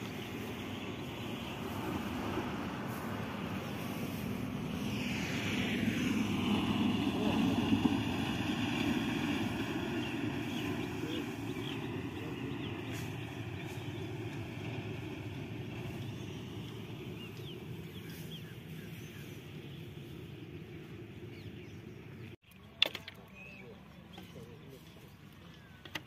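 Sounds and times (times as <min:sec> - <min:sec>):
truck engine running: 0:00.0 - 0:22.3.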